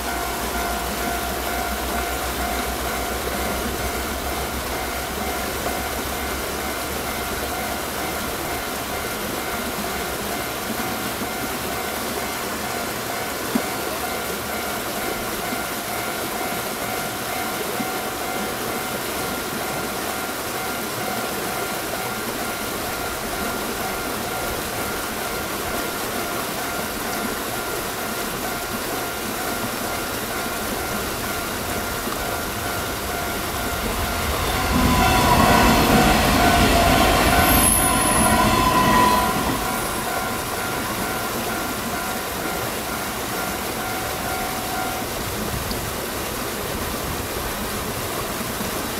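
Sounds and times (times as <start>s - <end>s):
level-crossing warning bell: 0.0s - 45.5s
rain hissing: 0.0s - 48.9s
train passing: 0.0s - 48.9s.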